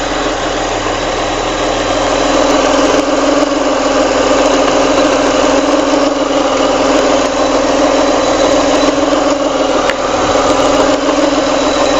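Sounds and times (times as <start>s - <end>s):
car engine idling: 0.0s - 11.9s
odd timing belt noise: 0.0s - 11.9s.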